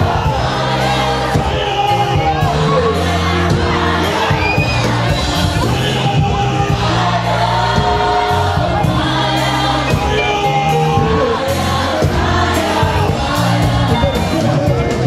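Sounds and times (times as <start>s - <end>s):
gospel group singing: 0.0s - 15.0s
low bass notes: 0.0s - 15.0s.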